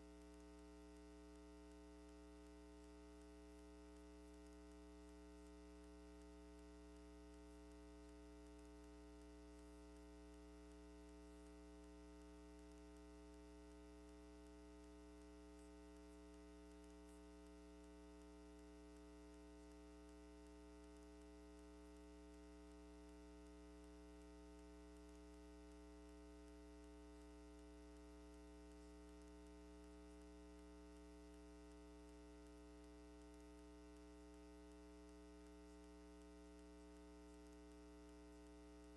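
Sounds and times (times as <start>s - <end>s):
mains hum: 0.0s - 38.9s.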